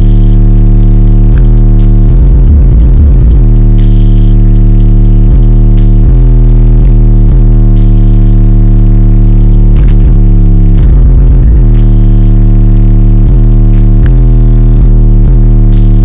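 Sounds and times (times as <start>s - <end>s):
loud bass-heavy music from subwoofers: 0.0s - 16.0s.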